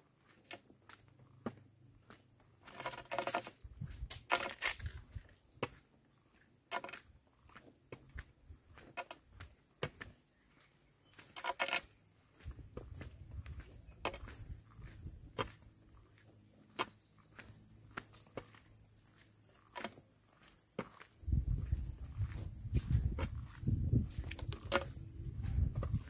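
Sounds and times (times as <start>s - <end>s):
high-pitched insect chorus: 0.0s - 26.0s
footsteps on concrete: 0.2s - 26.0s.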